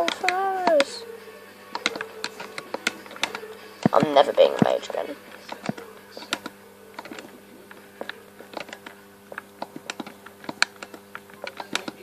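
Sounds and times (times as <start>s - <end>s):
controller button clicks: 0.0s - 1.0s, 1.7s - 4.8s, 5.4s - 7.3s, 8.0s - 12.0s.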